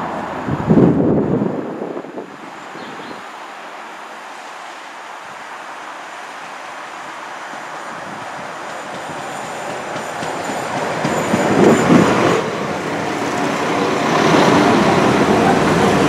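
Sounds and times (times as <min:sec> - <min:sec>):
train rumble and wheel noise: 0:00.0 - 0:16.0.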